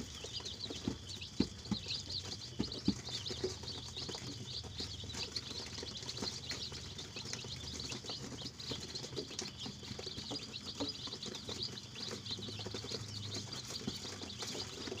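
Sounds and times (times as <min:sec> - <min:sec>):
chickens chirping: 0:00.0 - 0:15.0.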